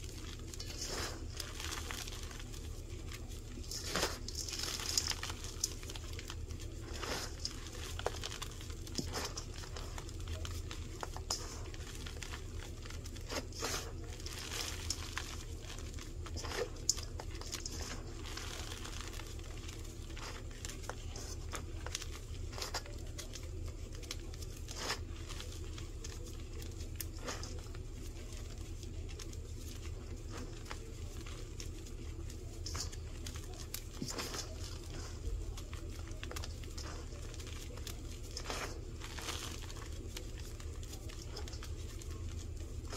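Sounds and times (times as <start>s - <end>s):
hands crunching powder lumps: 0.0s - 42.9s.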